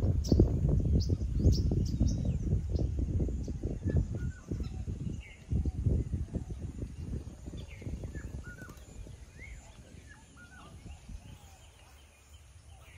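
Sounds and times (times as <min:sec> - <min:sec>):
birds chirping: 0:00.0 - 0:12.9
wind rumble on microphone: 0:00.0 - 0:12.9.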